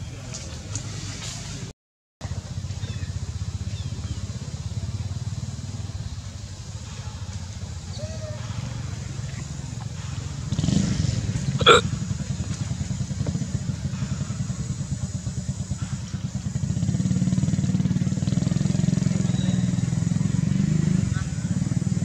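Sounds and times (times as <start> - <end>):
motorcycle engine running: 2.2 - 22.0.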